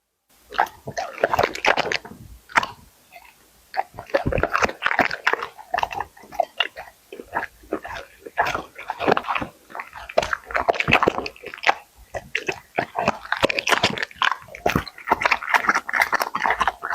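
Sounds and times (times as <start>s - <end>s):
dog chewing food: 0.5s - 16.9s.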